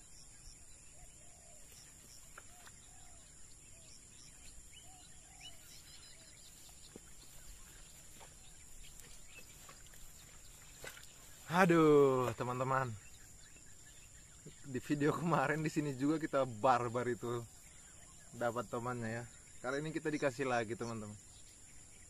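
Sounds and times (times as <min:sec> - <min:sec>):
soft bird calls: 0:00.0 - 0:22.0.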